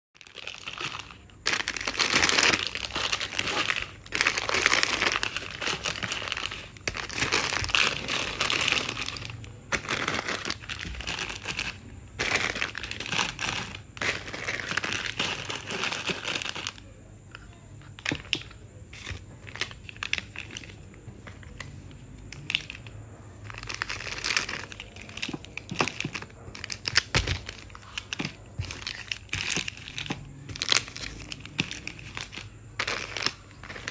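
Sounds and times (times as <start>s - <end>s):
plastic wrappers crinkling: 0.2s - 16.9s, 17.8s - 33.9s.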